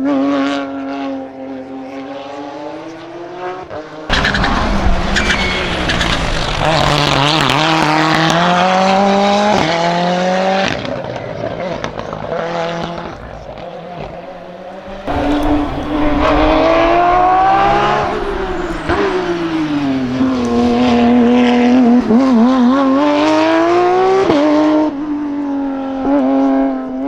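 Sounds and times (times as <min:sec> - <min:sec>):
race car engine at full throttle: 0:00.0 - 0:11.2, 0:11.8 - 0:27.0.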